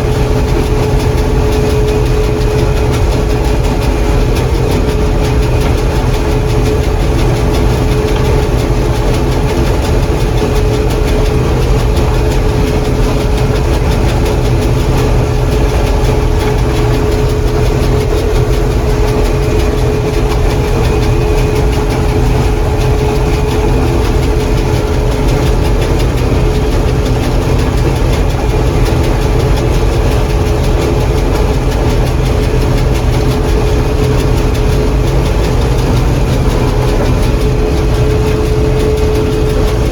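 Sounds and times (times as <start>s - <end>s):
combine harvester droning: 0.0s - 39.9s.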